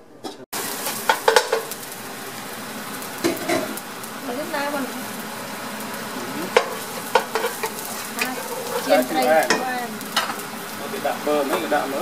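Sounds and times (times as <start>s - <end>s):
garlic sizzling in oil: 0.6s - 12.0s.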